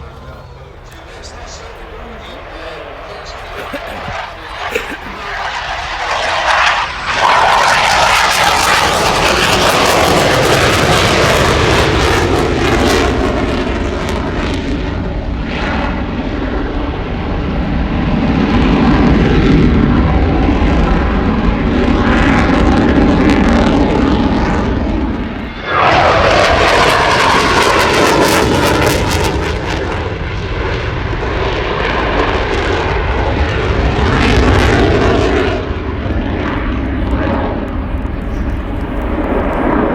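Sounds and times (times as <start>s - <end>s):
aircraft engine in flight: 0.0s - 39.9s.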